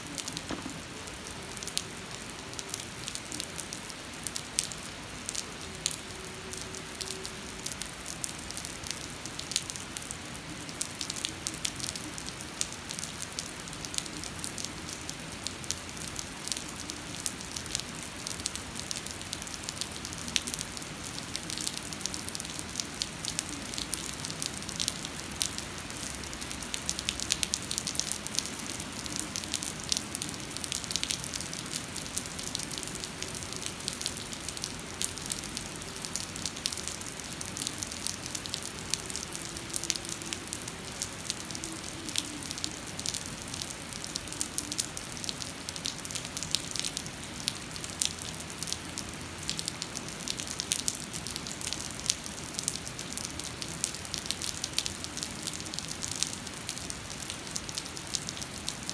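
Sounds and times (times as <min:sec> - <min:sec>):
heavy rain on wet pavement: 0:00.0 - 0:58.9.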